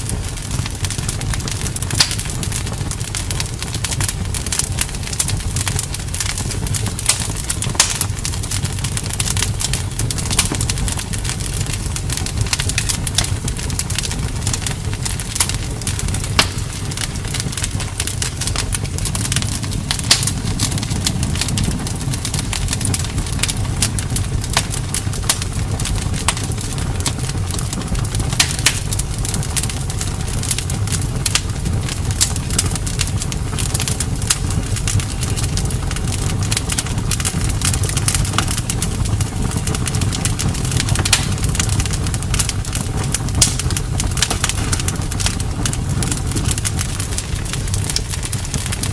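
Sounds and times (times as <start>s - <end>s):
bonfire crackling and popping: 0.0s - 48.9s
low rumble of flames: 0.0s - 48.9s.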